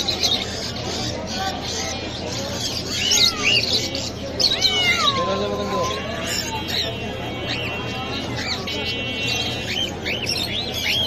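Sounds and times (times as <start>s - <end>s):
caged birds chirping: 0.0s - 11.0s.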